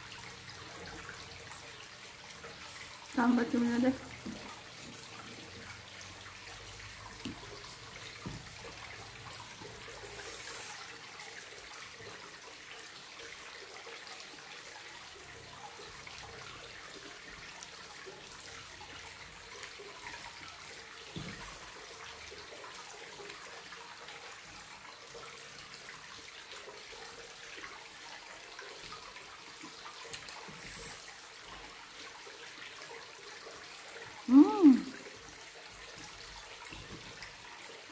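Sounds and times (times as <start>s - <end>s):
running water trickling: 0.0s - 37.9s.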